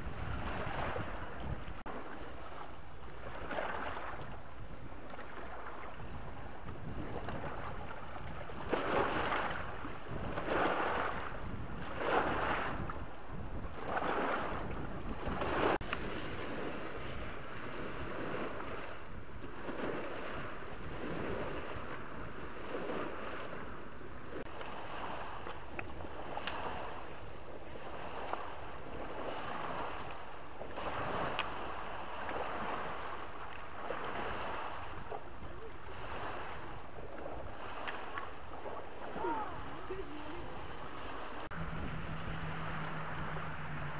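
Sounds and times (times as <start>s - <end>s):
wind buffeting microphone: 0.0s - 43.9s
waves washing against rocks: 3.4s - 43.9s.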